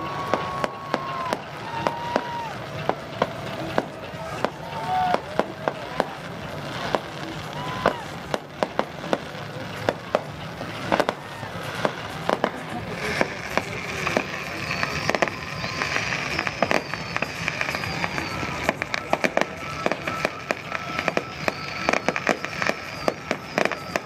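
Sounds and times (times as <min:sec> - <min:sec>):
fireworks banging: 0:00.0 - 0:24.0
fireworks crackling: 0:00.0 - 0:24.0
fireworks whistling: 0:00.0 - 0:24.0.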